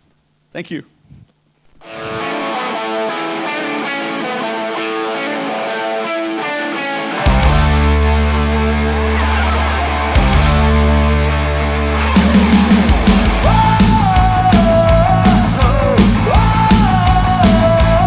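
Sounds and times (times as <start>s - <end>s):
guitar-led rock music: 1.8s - 18.0s.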